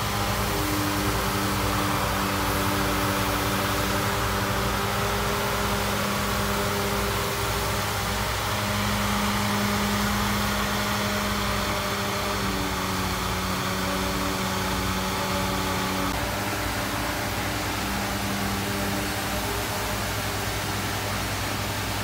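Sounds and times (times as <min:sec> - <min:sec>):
excavator diesel engines droning: 0:00.0 - 0:22.0.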